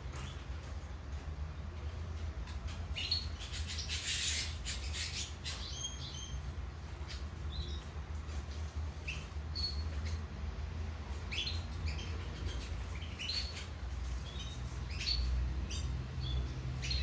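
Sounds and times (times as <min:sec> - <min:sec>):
canary singing: 0:01.9 - 0:17.0.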